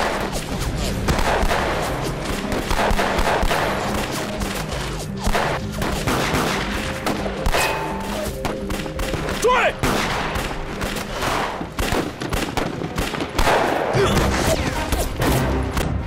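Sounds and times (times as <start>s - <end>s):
pistol gunfire: 0.0s - 0.4s, 1.0s - 14.0s.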